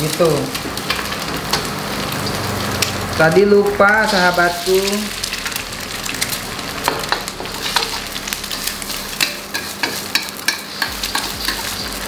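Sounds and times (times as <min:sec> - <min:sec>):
eggs sizzling in hot oil: 0:00.0 - 0:12.0
oil popping: 0:00.6 - 0:12.0.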